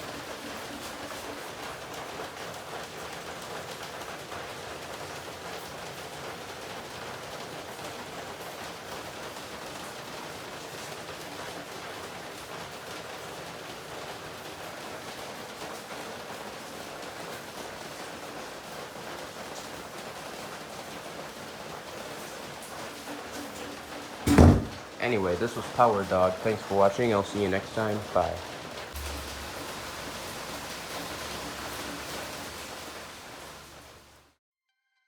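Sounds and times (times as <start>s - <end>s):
heavy rain falling: 0.0s - 34.4s.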